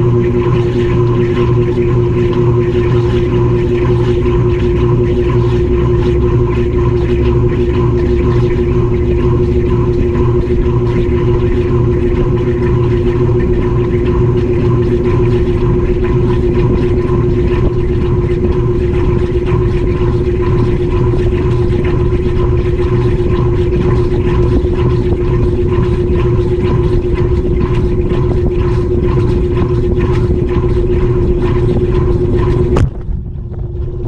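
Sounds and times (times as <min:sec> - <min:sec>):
washing machine spinning: 0:00.0 - 0:34.0.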